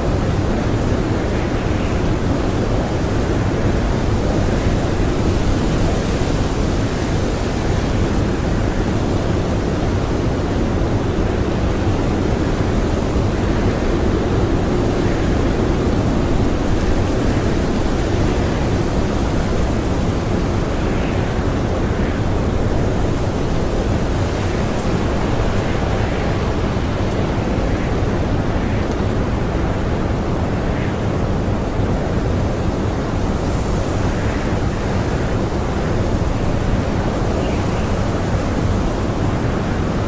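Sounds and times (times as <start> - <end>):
howling blizzard wind: 0.0 - 40.0.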